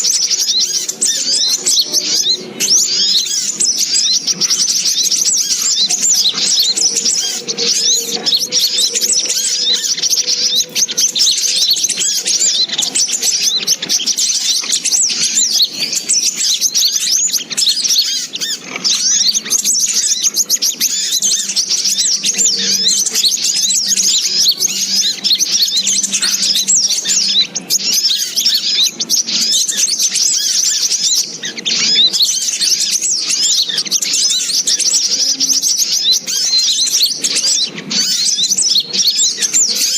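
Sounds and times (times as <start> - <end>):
rapid high-pitched bird chirps: 0.0 - 39.9.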